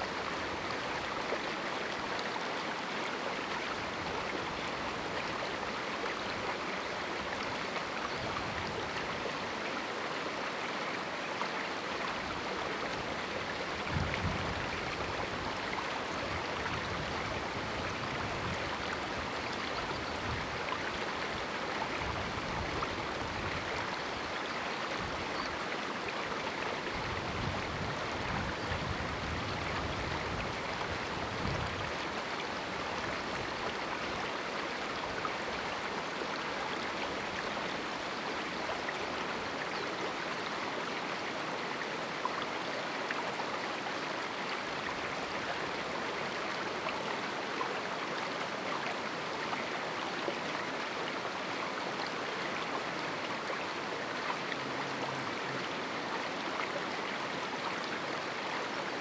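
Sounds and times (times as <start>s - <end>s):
river rushing water: 0.0s - 59.0s.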